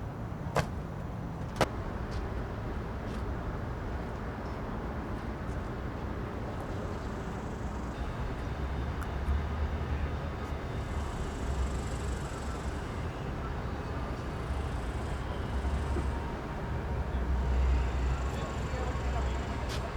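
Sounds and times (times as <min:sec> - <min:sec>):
street noise rumble: 0:00.0 - 0:19.9.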